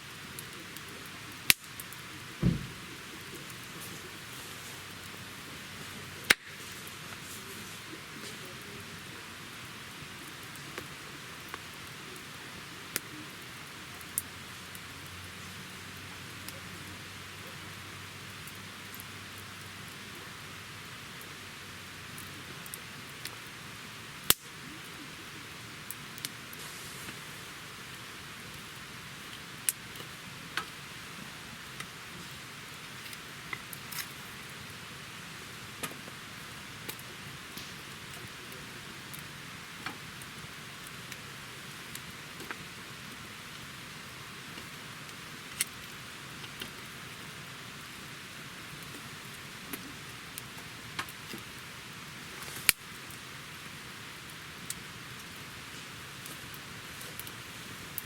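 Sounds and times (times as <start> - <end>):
wood campfire crackling: 0.0 - 58.0.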